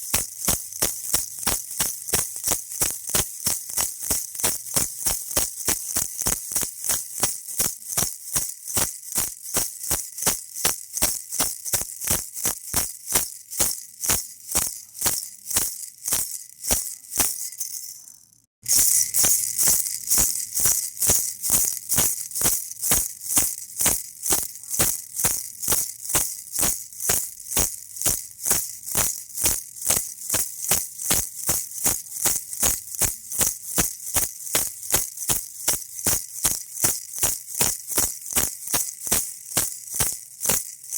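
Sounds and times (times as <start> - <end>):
baby rattle shaken: 0.0 - 40.9.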